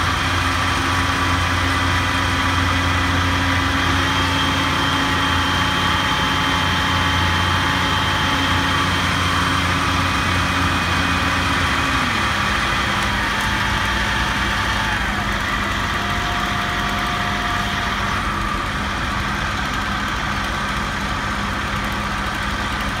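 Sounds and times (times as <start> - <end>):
heavy equipment engine running: 0.0 - 23.0.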